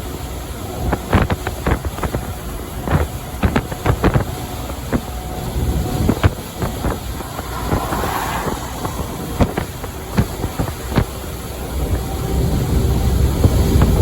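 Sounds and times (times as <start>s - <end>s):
truck engine and road rumble: 0.0s - 14.0s
wind noise: 0.0s - 14.0s.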